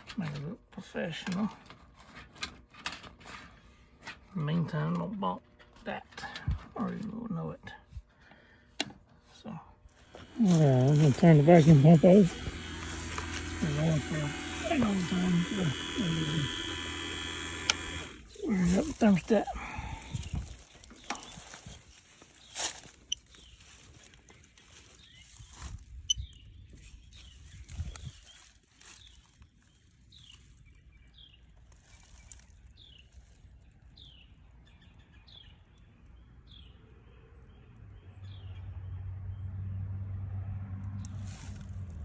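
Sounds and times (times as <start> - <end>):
low mechanical hum: 0.0 - 38.1.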